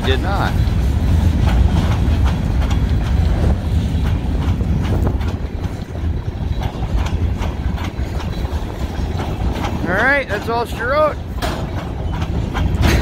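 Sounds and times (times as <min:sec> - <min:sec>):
freight train rumbling past: 0:00.0 - 0:13.0
wheels clacking over rail joints: 0:00.0 - 0:13.0
wind buffeting microphone: 0:00.0 - 0:13.0.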